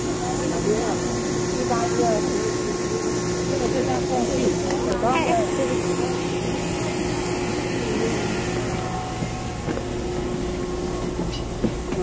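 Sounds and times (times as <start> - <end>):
train carriage running noise: 0.0 - 12.0.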